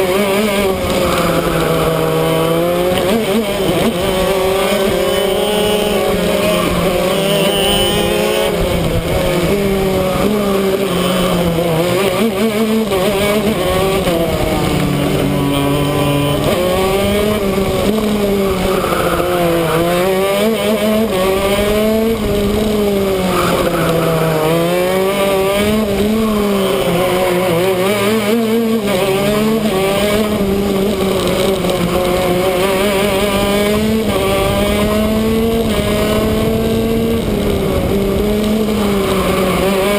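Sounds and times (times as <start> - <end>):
two-stroke engine racing: 0.0 - 39.9.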